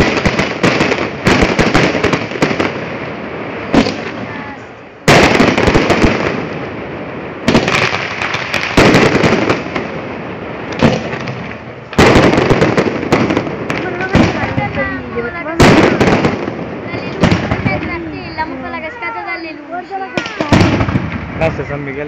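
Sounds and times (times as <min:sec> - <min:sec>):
dense crackling: 0:00.0 - 0:22.0
fireworks bursting: 0:00.0 - 0:22.0.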